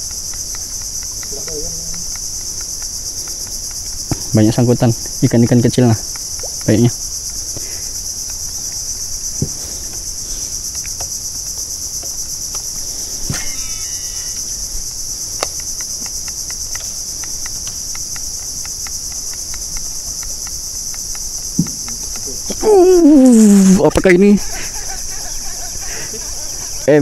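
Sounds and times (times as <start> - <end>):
faint clicks: 0.0 - 11.4, 12.0 - 26.8
faint regular ticks: 0.0 - 27.0
insects buzzing chorus: 0.0 - 27.0.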